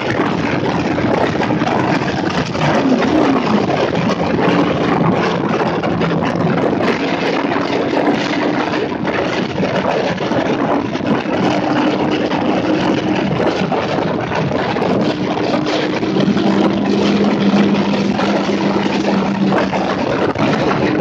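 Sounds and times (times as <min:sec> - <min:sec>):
motorcycle engine running: 0:00.0 - 0:21.0
wind rush: 0:00.0 - 0:21.0.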